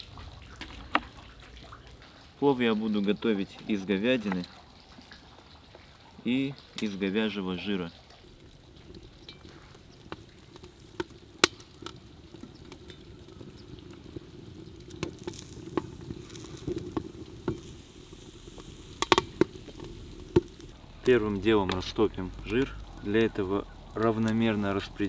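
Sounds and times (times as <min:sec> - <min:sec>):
fat crackling and sizzling: 0:00.0 - 0:25.0.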